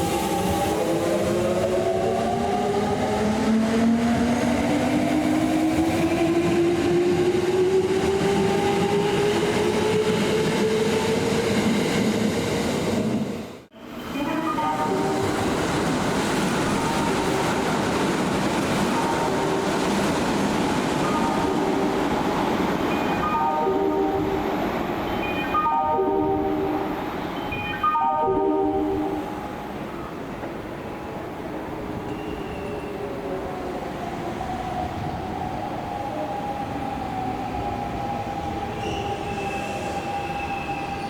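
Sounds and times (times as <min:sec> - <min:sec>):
train running noise: 0:00.0 - 0:36.0.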